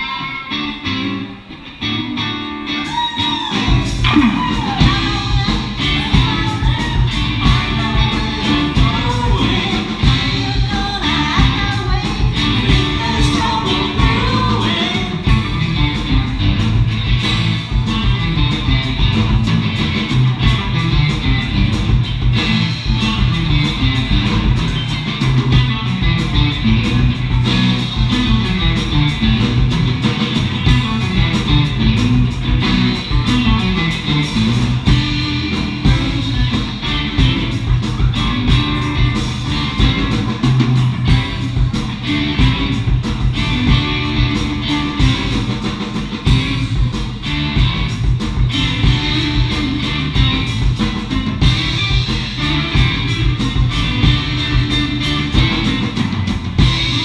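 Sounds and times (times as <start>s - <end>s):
bass: 0.0s - 57.0s
electric guitars: 0.0s - 57.0s
steady drum beat: 2.8s - 57.0s.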